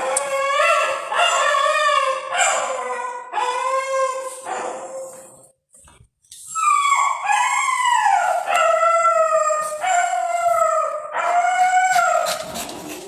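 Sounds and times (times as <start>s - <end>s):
puppy howling: 0.0s - 5.0s, 6.6s - 12.5s.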